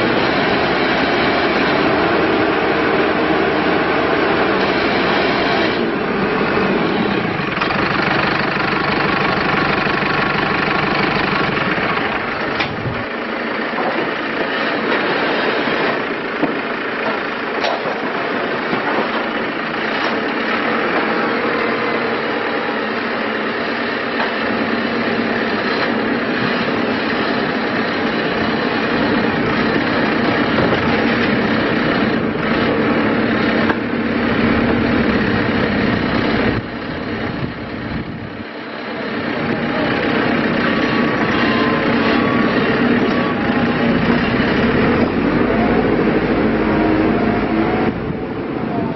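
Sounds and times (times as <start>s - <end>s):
diesel engine rumbling: 0.0s - 48.9s.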